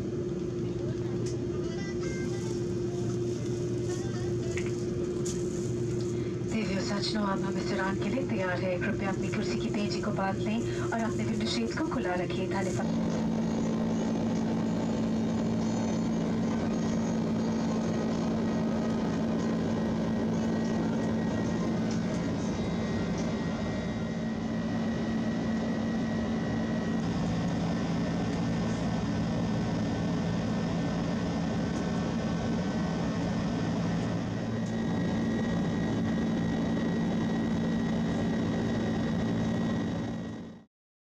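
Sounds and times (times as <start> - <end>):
airliner cabin low hum: 0.0 - 40.7
faint high whine: 1.7 - 40.7.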